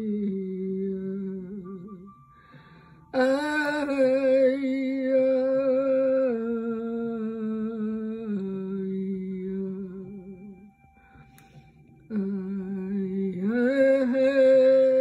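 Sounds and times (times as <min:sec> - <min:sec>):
person humming a held note: 0:00.0 - 0:15.0.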